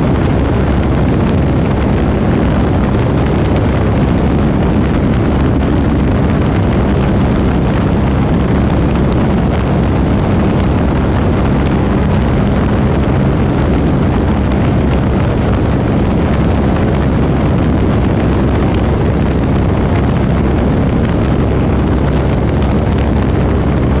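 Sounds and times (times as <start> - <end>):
propeller airplane engine drone: 0.0 - 24.0.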